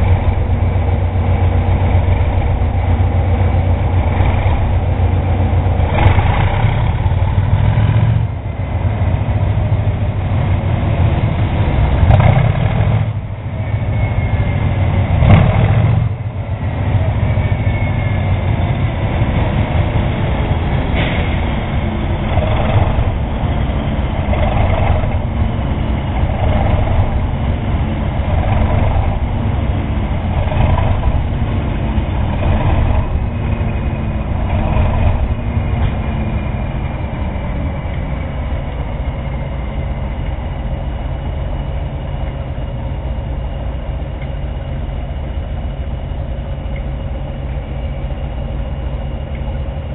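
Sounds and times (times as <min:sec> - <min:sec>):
diesel locomotive engines throbbing: 0:00.0 - 0:49.9.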